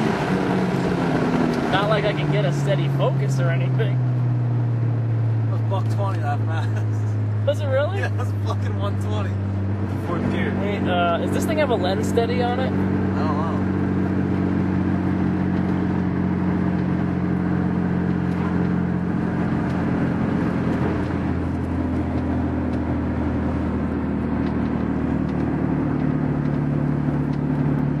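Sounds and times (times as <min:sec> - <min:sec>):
car engine running: 0:00.0 - 0:28.0
road noise: 0:00.0 - 0:28.0.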